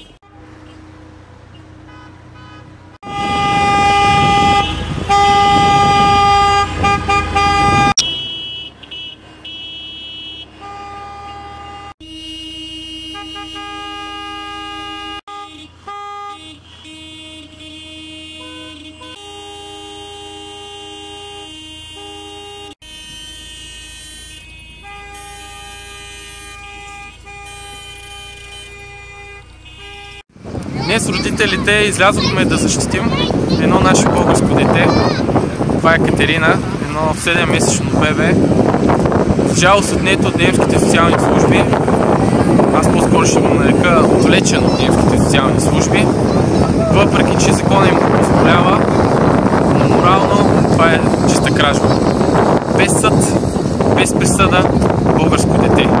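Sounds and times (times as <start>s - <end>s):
car horns honking: 0.0s - 56.0s.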